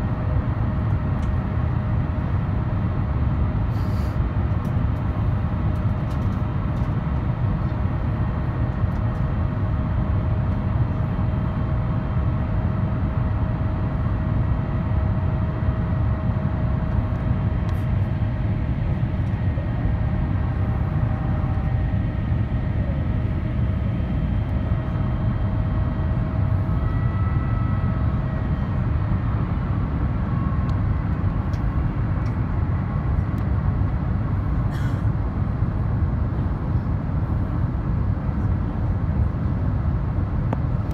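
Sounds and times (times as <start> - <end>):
airplane cabin rumble: 0.0 - 40.9
faint steady whine: 0.0 - 40.9.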